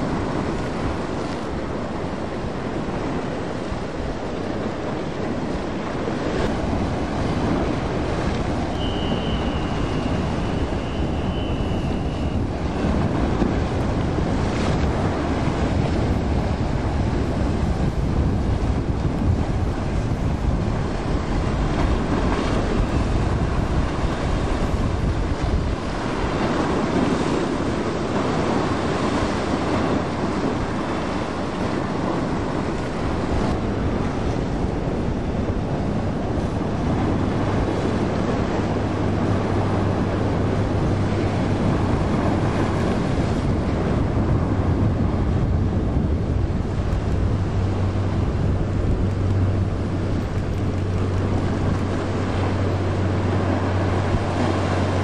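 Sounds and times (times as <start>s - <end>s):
boat engine drone: 0.0s - 55.0s
waves rushing: 0.0s - 55.0s
wind buffeting microphone: 0.0s - 55.0s.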